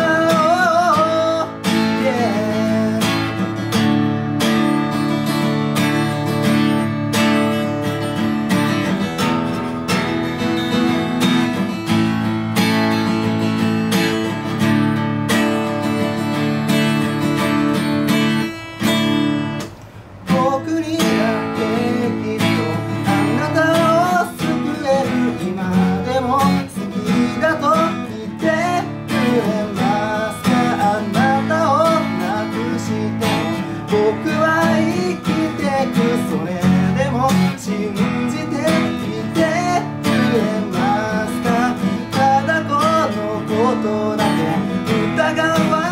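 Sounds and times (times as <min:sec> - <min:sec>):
man singing: 0:00.0 - 0:18.9, 0:20.2 - 0:45.9
acoustic guitar strumming: 0:00.0 - 0:45.9.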